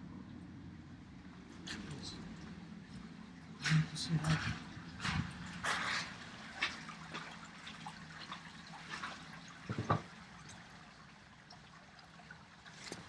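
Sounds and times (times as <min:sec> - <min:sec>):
water trickling and dripping: 0:01.2 - 0:13.0.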